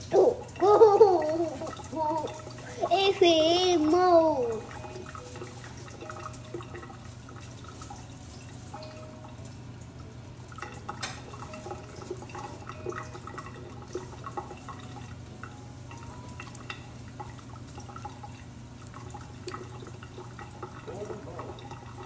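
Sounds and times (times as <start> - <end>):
water splashing in a metal sink: 0.0 - 22.0.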